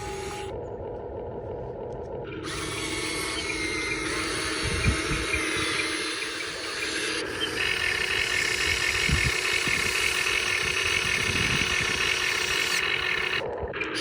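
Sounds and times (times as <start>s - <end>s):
model excavator motor whining: 0.0s - 14.0s.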